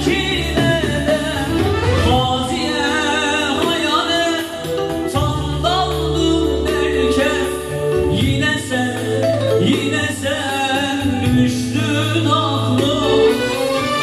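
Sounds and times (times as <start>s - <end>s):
electronic keyboard chords: 0.0s - 14.0s.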